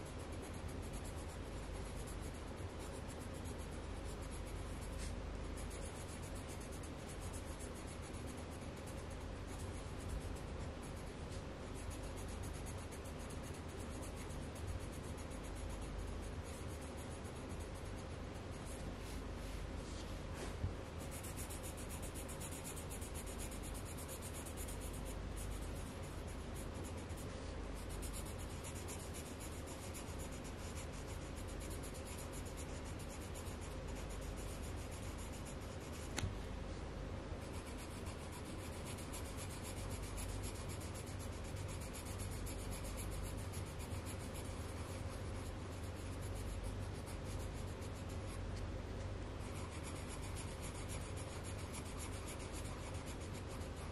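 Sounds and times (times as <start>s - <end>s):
pencil scratching on paper: 0.0s - 36.3s, 37.4s - 48.6s, 49.3s - 53.9s.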